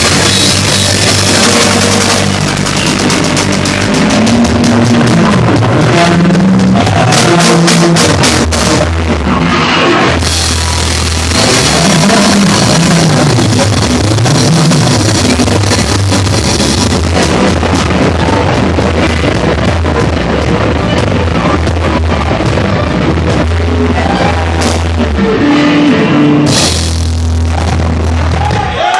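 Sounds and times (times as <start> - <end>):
moving bass line: 0.0 - 28.9
rock band playing loudly: 0.0 - 28.9.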